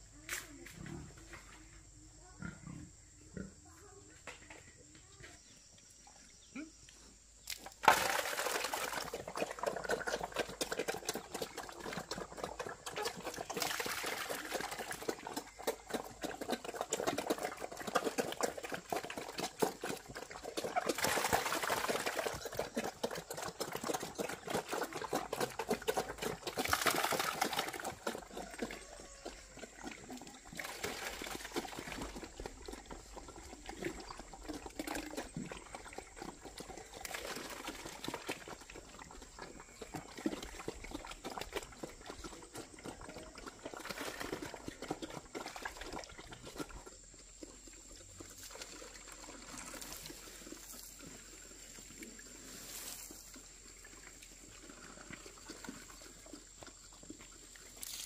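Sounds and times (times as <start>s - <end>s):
pigs slurping and chomping: 7.5s - 58.0s.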